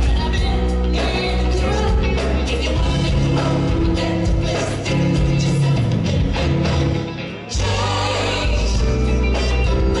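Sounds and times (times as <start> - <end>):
singing over a band: 0.0 - 10.0.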